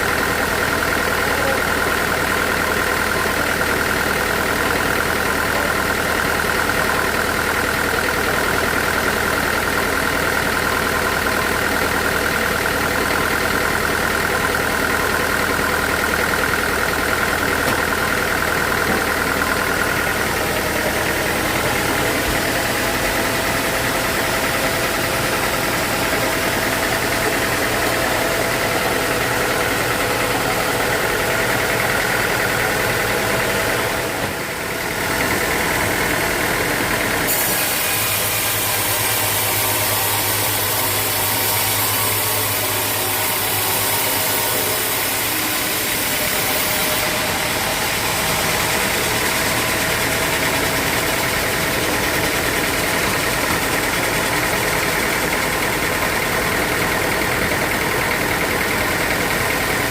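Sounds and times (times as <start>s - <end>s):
sawmill machinery whining: 0.0s - 59.9s.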